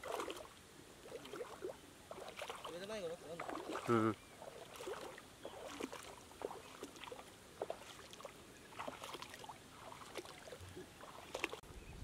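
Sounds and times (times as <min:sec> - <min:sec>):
water splashes and drips: 0:00.0 - 0:11.7.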